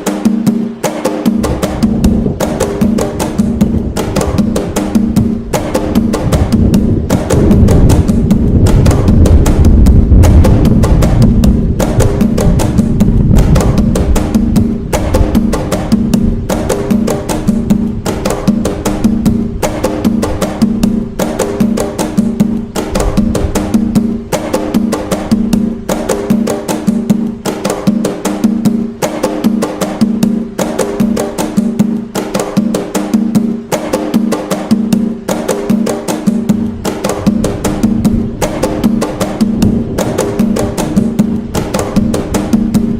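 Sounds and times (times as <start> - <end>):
hand drums playing: 0.0 - 42.9.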